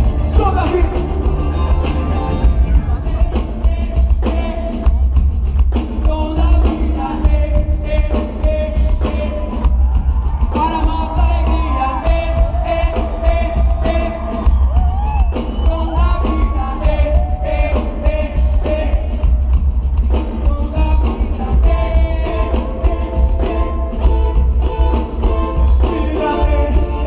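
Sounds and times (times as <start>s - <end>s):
people singing: 0.0s - 19.5s, 20.1s - 27.0s
live pop-rock band: 0.0s - 27.0s.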